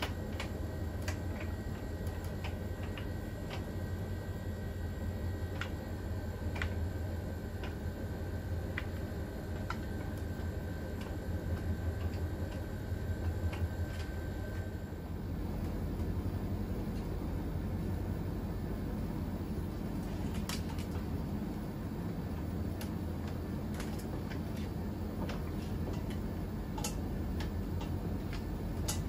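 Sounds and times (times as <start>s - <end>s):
washing machine motor hum: 0.0s - 29.0s.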